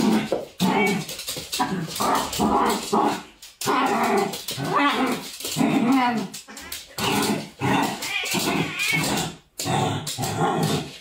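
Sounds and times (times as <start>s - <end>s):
small dog play-growling: 0.0s - 11.0s.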